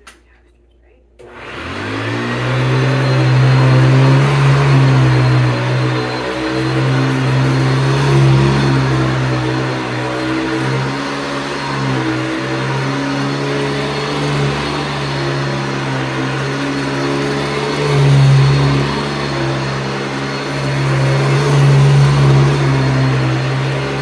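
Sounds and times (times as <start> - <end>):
upright vacuum cleaner running: 1.2 - 24.0.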